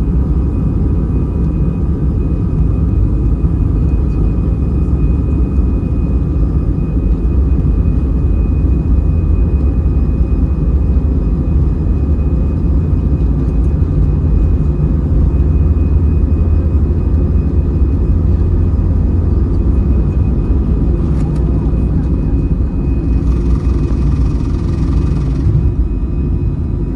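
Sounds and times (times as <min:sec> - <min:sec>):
jet engines at takeoff thrust: 0:00.0 - 0:26.9
thin high engine whine: 0:00.2 - 0:26.9.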